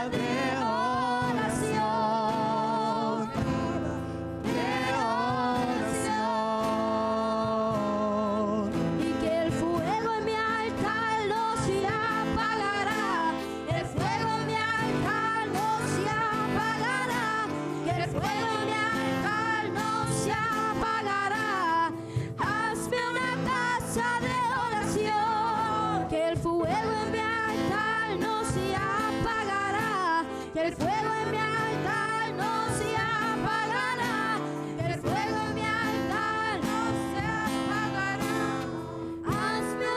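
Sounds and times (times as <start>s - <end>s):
voices singing worship song: 0.0s - 39.9s.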